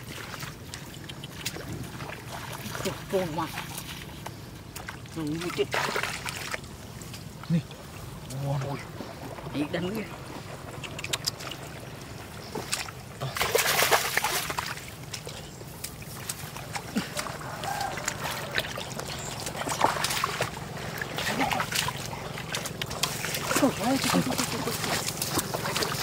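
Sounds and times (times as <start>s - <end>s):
splashing in muddy water: 0.0s - 26.0s.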